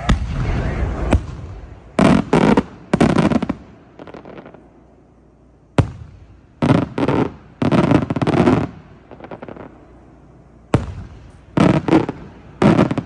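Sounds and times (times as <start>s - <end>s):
firework bangs: 0.0s - 4.6s, 5.8s - 13.0s
fireworks crackling: 0.0s - 13.0s.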